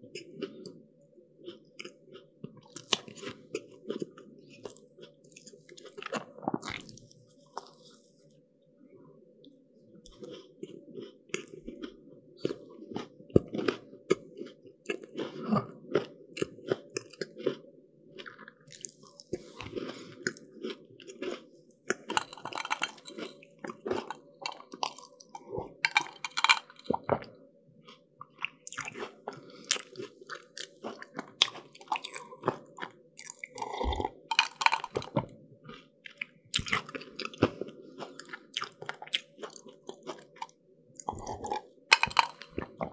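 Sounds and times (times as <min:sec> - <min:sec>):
chewing crisp pastry: 0:00.0 - 0:08.4, 0:09.4 - 0:42.9.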